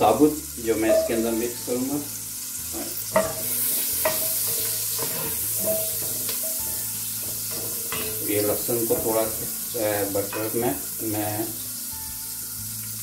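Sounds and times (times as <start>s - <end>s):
garlic sizzling in butter: 0.0s - 13.0s.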